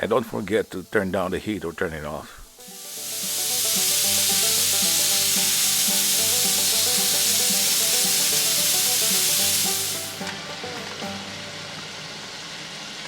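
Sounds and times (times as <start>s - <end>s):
frying sizzle: 0.0s - 13.0s
pressure cooker steam hissing: 0.0s - 13.0s.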